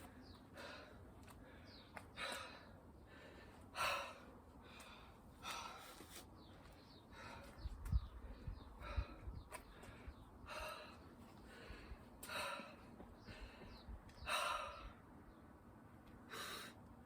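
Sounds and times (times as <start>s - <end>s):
person breathing hard: 0.4s - 6.1s, 6.9s - 15.0s.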